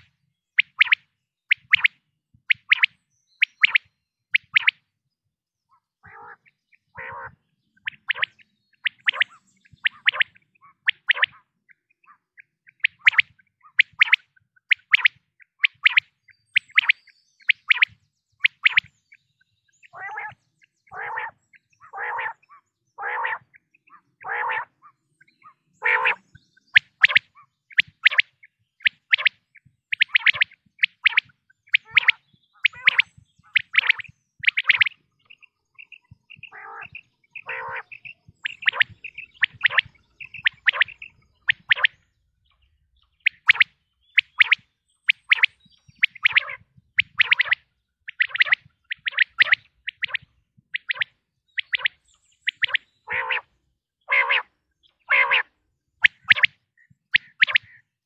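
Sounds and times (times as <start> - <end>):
quail calling: 2.5 - 4.7, 5.7 - 18.9, 19.9 - 42.0, 43.1 - 53.5, 54.1 - 57.9.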